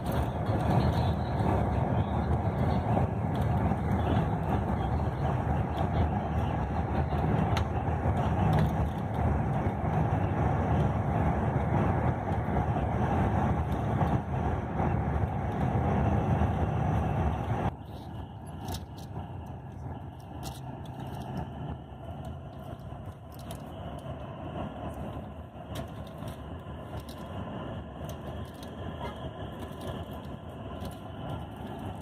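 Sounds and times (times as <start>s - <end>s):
coach road and engine noise: 0.0s - 32.0s.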